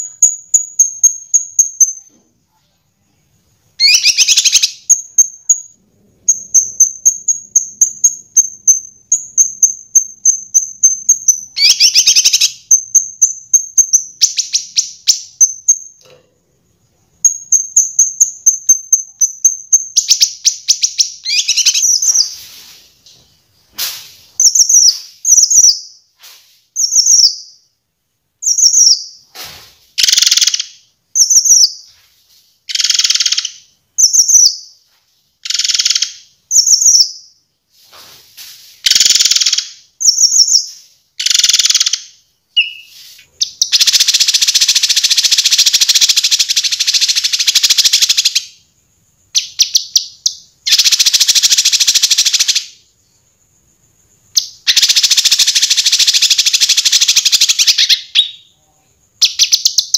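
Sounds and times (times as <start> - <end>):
songbird trills and chirps: 0.0 - 16.1, 17.0 - 23.3, 24.3 - 27.8, 28.4 - 29.3, 30.0 - 37.5, 38.8 - 59.9.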